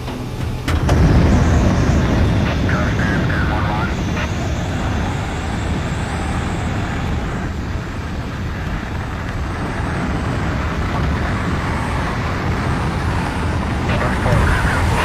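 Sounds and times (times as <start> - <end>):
light aircraft engine drone: 0.0 - 15.0
rushing wind: 0.0 - 15.0.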